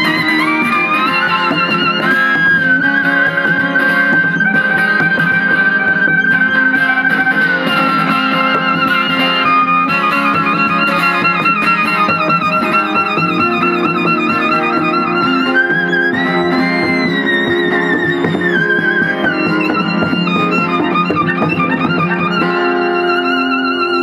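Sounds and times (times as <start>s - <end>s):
strummed acoustic guitar: 0.0s - 24.0s
violin melody with vibrato: 0.0s - 24.0s.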